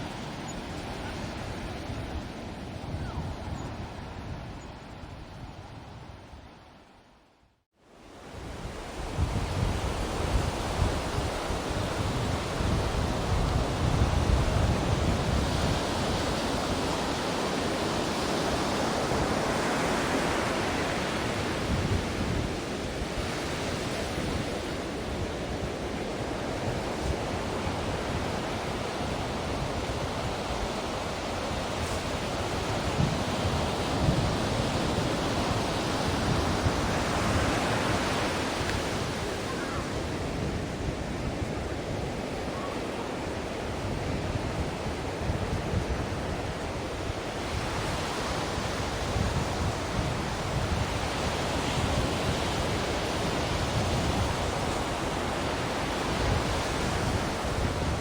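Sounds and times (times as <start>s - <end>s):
ocean waves breaking: 0.0s - 3.0s, 8.2s - 58.0s.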